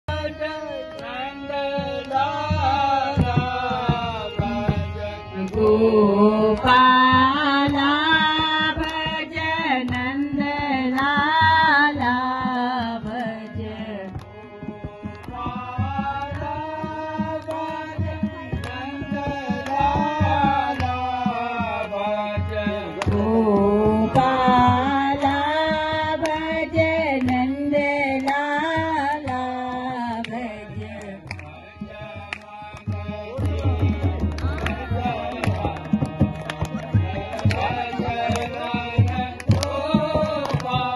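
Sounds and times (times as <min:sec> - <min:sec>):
harmonium: 0:00.0 - 0:40.9
group devotional singing: 0:00.1 - 0:40.9
hand drums keeping rhythm: 0:00.9 - 0:40.9.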